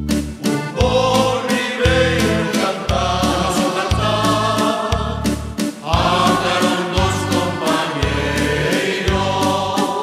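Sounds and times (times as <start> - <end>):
group singing in chorus: 0.5 - 10.0.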